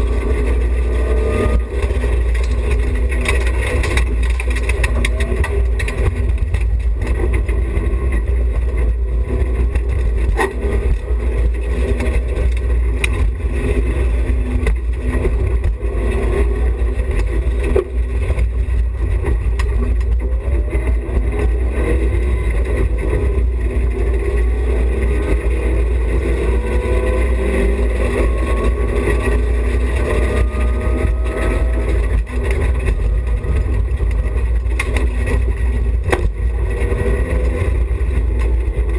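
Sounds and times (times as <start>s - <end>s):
car noise rumble: 0.0s - 38.9s
rally car engine revving: 0.0s - 38.9s.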